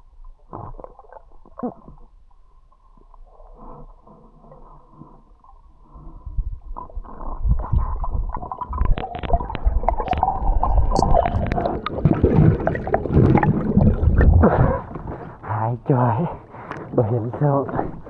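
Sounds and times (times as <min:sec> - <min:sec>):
water gurgling and sloshing: 0:00.0 - 0:18.0
muffled underwater bubbling: 0:03.0 - 0:18.0.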